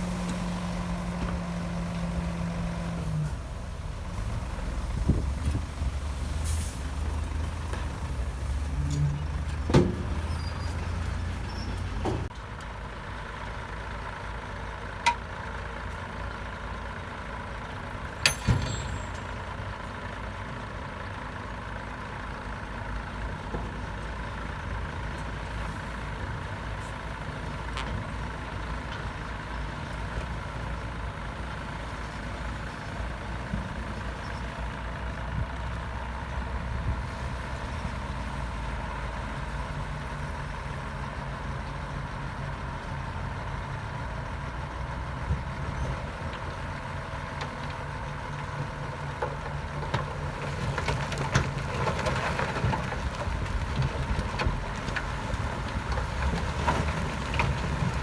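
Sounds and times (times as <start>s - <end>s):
diesel machinery engine rumble: 0.0s - 58.0s.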